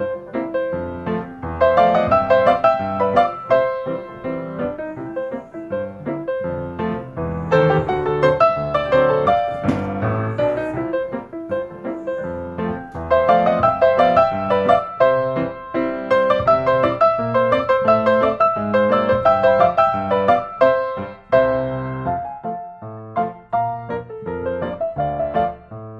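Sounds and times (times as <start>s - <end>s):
piano background music: 0.0s - 25.9s.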